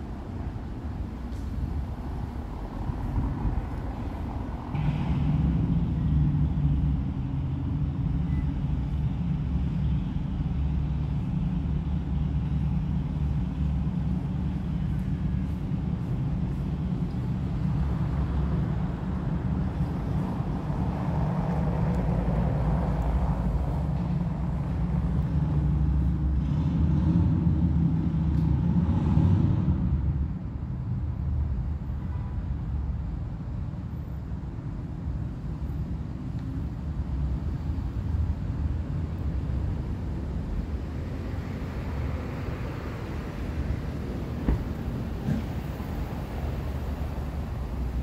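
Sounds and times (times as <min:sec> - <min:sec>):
city traffic rumble: 0:00.0 - 0:48.0.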